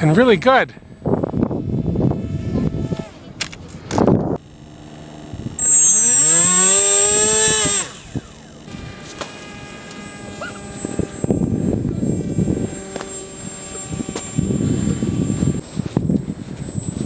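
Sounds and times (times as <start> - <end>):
electric motor and propeller whine: 0.0 - 17.0
faint steady hum: 0.1 - 17.0.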